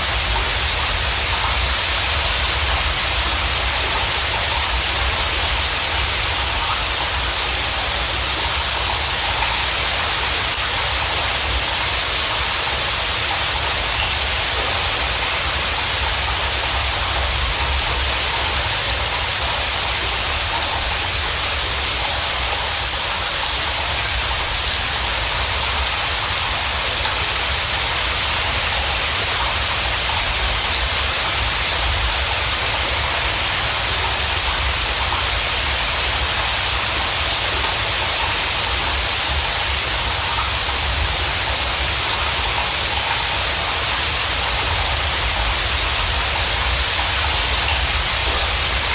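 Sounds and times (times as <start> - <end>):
rain patter: 0.0 - 48.9.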